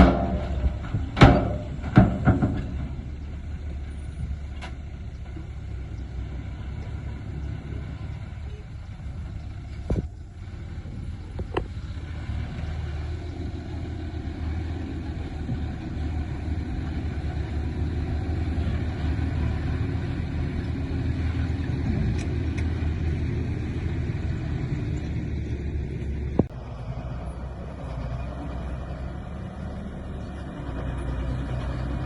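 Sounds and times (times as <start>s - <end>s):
heavy machinery diesel engine: 0.0s - 32.0s.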